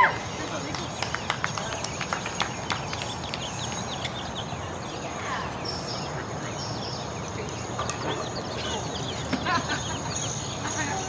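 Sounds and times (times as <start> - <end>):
birds chirping: 0.0 - 11.0
low background murmur: 0.0 - 11.0.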